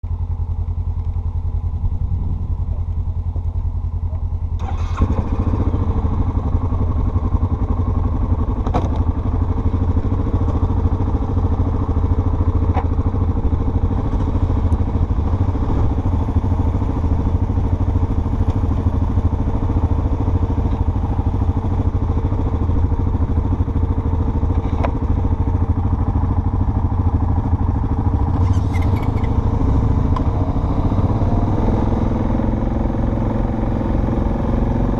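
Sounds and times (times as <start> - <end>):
off-road vehicle engine droning: 0.0 - 34.9.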